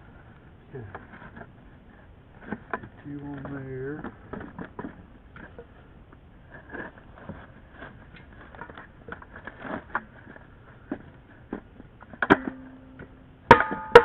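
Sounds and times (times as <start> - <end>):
pipe fittings clicking and scraping: 0.9 - 14.0.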